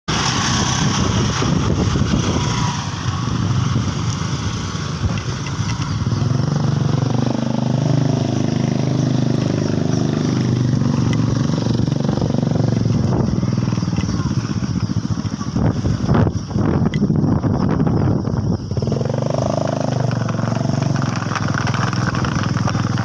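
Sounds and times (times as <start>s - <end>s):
motorcycle engine running: 0.1s - 23.0s.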